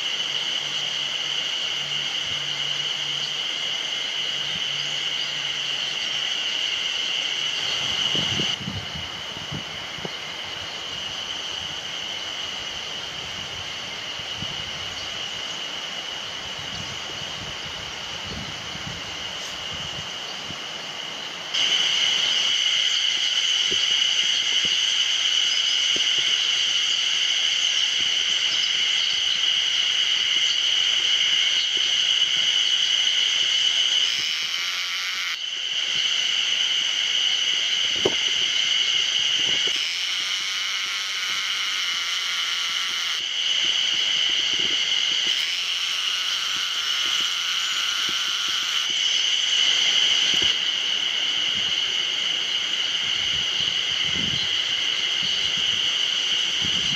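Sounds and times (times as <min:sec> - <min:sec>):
cicadas buzzing: 0:00.0 - 0:56.9.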